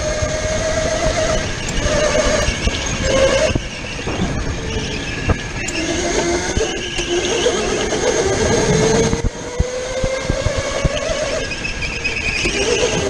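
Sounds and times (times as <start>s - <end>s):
go-kart motor whine: 0.0s - 13.0s
tyre squeal: 0.0s - 13.0s.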